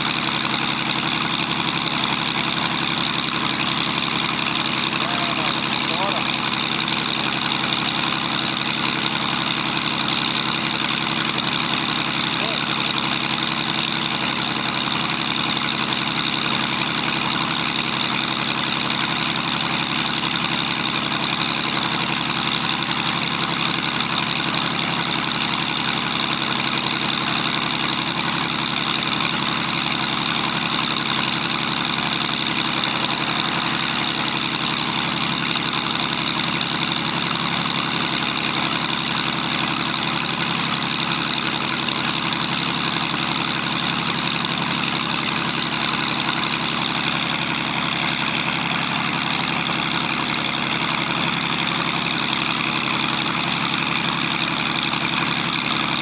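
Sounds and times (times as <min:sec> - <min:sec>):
aircraft propeller engine running: 0:00.0 - 0:56.0.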